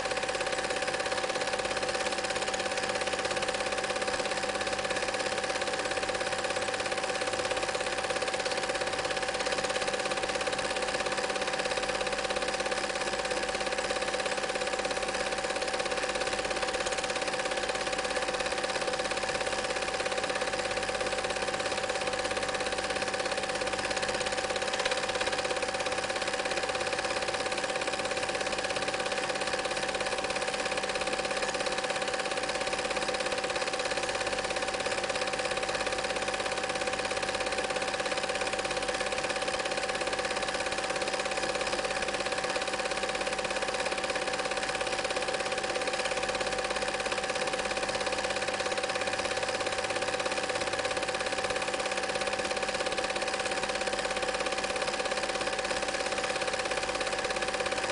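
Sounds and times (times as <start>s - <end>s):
film projector running: 0.0s - 57.9s.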